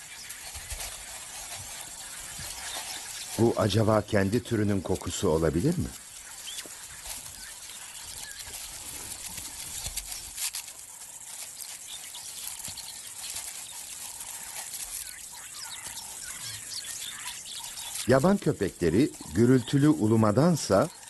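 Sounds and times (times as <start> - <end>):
bird chirps: 0.0 - 10.3, 10.9 - 21.0
animal rustling in dry grass: 0.0 - 21.0
bush ambience hiss: 0.0 - 21.0.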